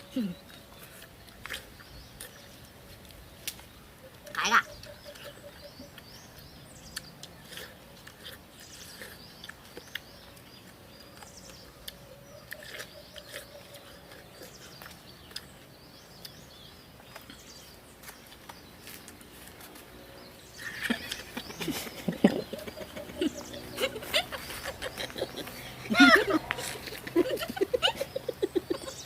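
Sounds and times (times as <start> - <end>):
watermelon being chewed: 0.0 - 29.0.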